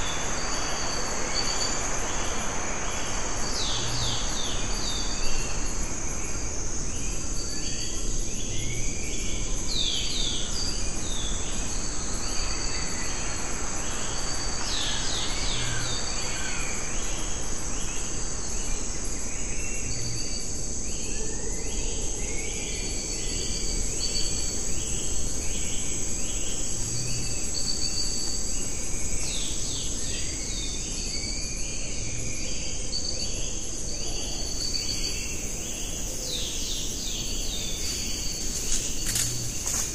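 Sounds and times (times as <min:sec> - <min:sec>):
even hiss: 0:00.0 - 0:39.9
high-pitched insect drone: 0:00.0 - 0:39.9.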